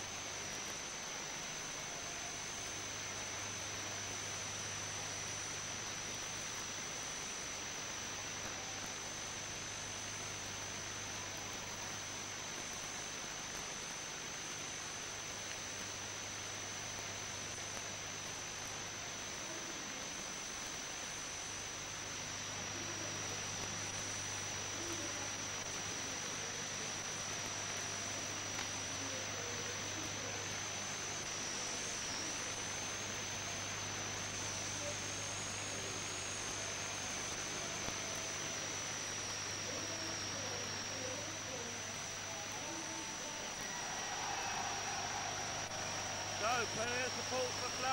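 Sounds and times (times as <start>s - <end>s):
recording hiss: 0.0s - 47.9s
thin high-pitched whine: 0.0s - 47.9s.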